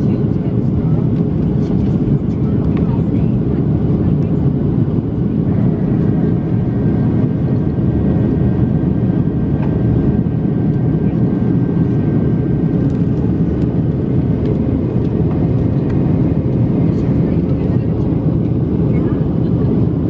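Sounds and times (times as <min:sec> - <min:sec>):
airplane cabin roar: 0:00.0 - 0:20.0.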